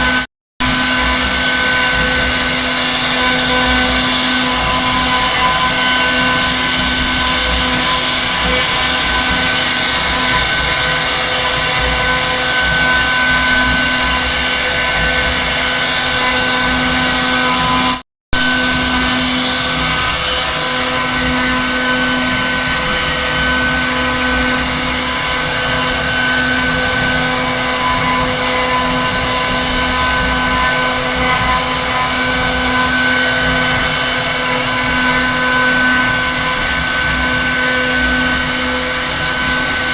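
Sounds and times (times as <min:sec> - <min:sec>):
router cutting wood: 0:00.0 - 0:39.9
router spindle whine: 0:00.0 - 0:39.9.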